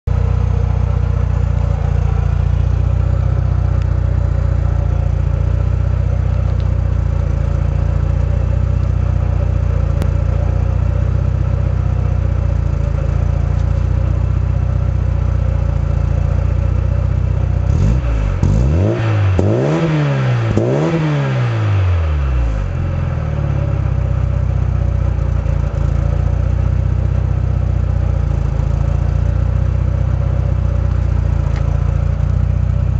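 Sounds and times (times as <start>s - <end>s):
car exhaust idling: 0.1s - 32.9s.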